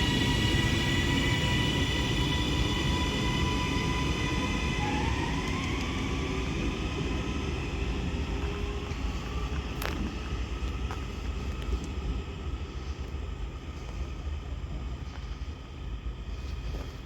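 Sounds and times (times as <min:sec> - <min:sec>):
electric train motors whining: 0:00.0 - 0:17.0.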